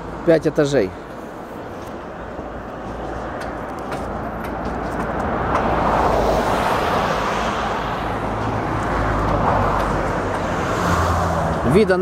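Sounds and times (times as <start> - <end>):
cars passing: 0.0 - 12.0
road traffic rushing: 0.0 - 12.0.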